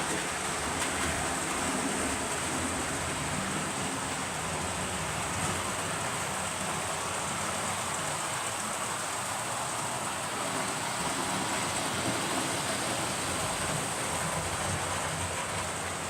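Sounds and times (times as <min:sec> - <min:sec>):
constant hiss: 0:00.0 - 0:16.0
diesel locomotive engine hum: 0:00.0 - 0:16.0.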